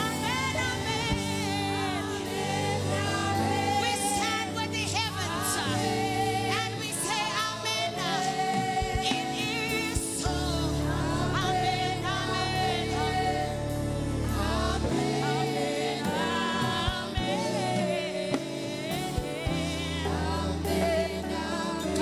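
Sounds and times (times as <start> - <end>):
bass: 0.0 - 22.0
gospel singing: 0.0 - 22.0.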